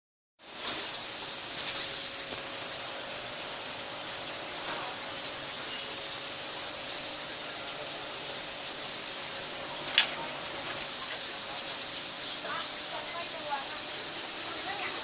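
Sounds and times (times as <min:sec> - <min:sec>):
ceiling fan running: 0:00.5 - 0:15.0.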